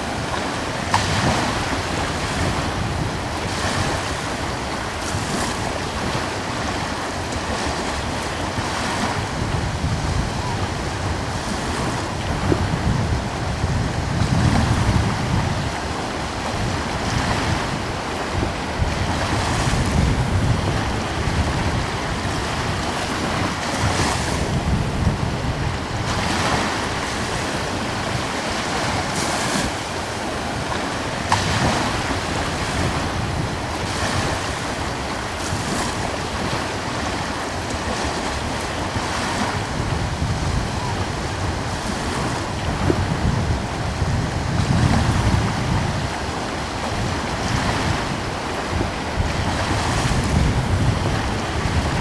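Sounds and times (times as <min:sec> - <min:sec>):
small ocean waves breaking: 0:00.0 - 0:52.0
wind on microphone: 0:00.0 - 0:52.0.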